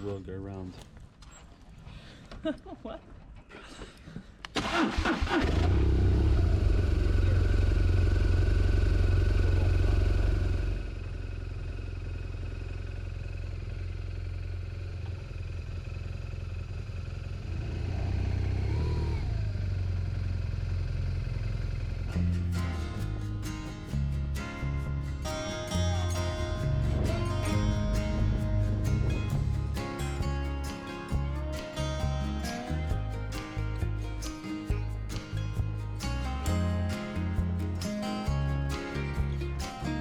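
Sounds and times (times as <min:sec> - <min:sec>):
motorcycle engine starting and idling: 0:04.5 - 0:40.0.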